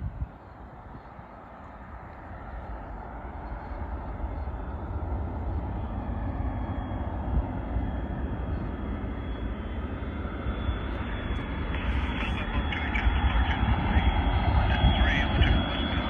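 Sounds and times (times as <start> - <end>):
jet engines rumbling roar: 0.0 - 16.0.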